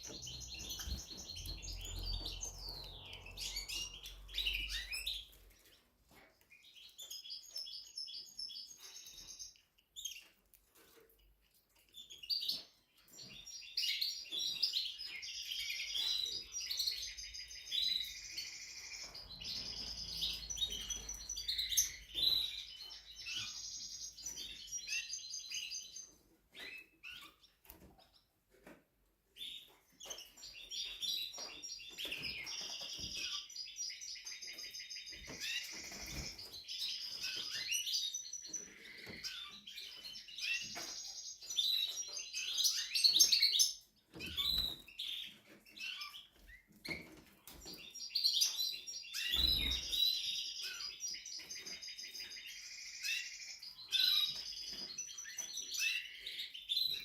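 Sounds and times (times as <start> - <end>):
canary singing trills: 0.0 - 11.0, 11.6 - 28.3, 29.4 - 57.0.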